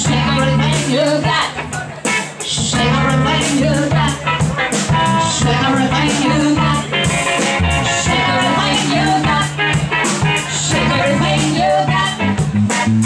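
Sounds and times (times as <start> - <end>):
person singing: 0.0 - 12.4
drum beat: 0.0 - 13.0
steady bass line: 0.0 - 13.0.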